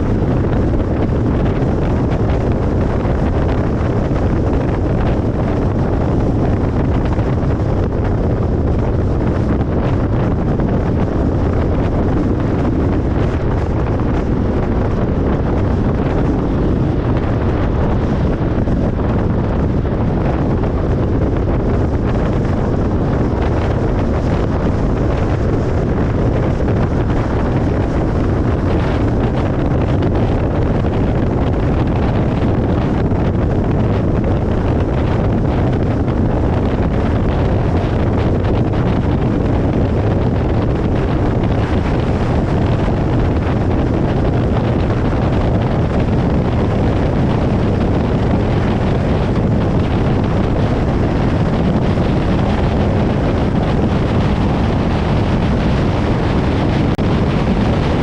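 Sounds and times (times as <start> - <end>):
tyres rumbling on road: 0.0 - 58.0
wind: 0.0 - 58.0.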